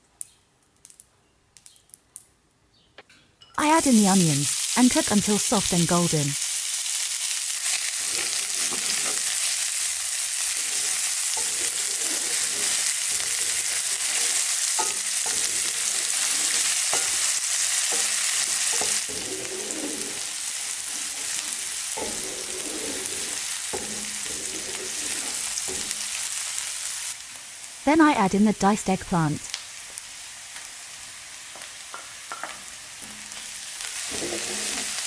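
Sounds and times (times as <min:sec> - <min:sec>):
onions sizzling in a pan: 0:03.8 - 0:27.8, 0:29.5 - 0:35.0.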